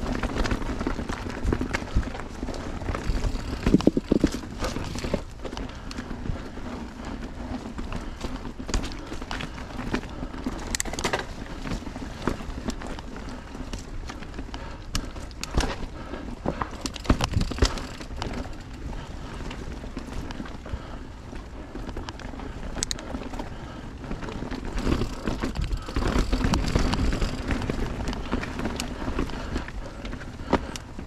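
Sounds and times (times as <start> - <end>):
bike clicks and rattles: 0.0 - 31.0
bike tyre rumble on dirt: 0.0 - 31.0.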